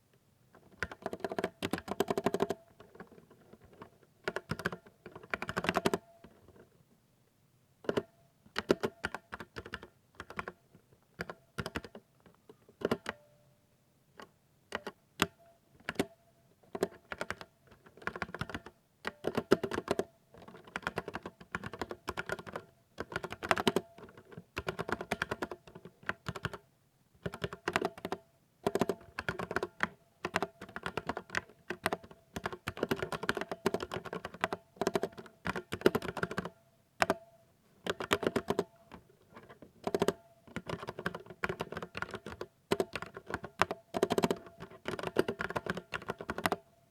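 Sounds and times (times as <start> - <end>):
mechanical keyboard typing: 0.8 - 3.2, 3.8 - 6.1, 7.9 - 10.6, 11.2 - 12.0, 12.8 - 13.2, 14.7 - 26.6, 27.2 - 37.2, 37.8 - 46.7.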